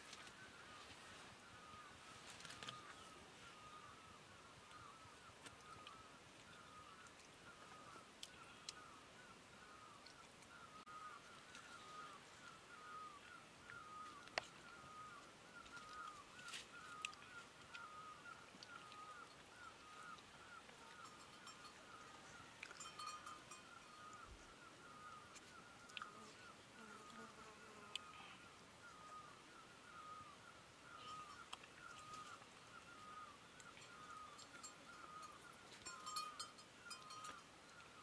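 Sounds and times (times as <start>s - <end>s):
bird chirping: 0.3s - 27.3s, 28.0s - 38.0s.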